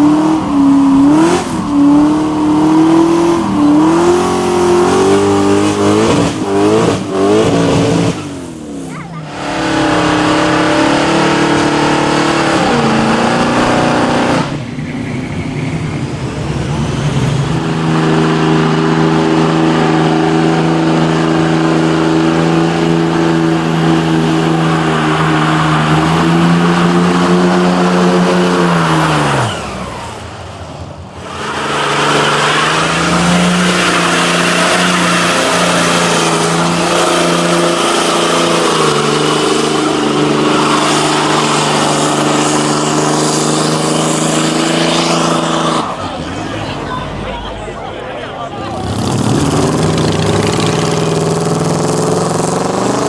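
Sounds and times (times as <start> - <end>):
car engine revving high: 0.0 - 14.7, 16.8 - 46.8, 48.6 - 53.0.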